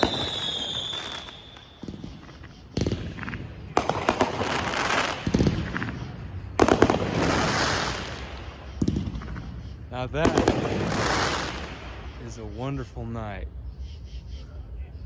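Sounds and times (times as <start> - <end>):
firework bangs: 0.0 - 13.1
crackling hiss: 0.0 - 15.0
firework whistle: 0.0 - 15.0.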